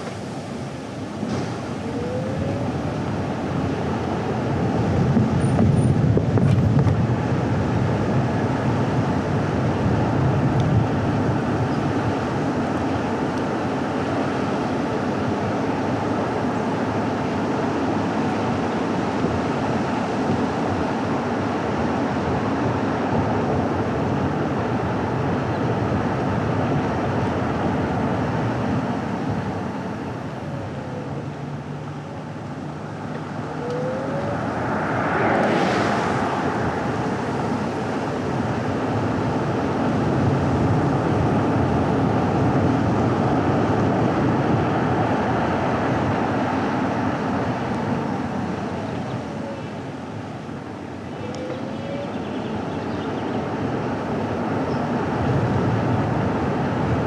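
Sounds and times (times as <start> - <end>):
tyre and engine noise: 0.0 - 57.0.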